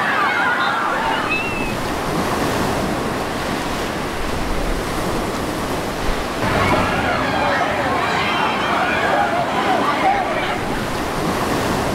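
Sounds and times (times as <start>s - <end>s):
water surging in waves: 0.0s - 11.9s.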